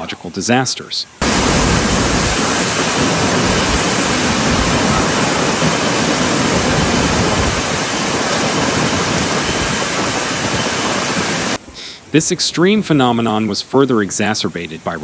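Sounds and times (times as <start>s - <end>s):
heavy rain and wind: 1.1s - 15.0s.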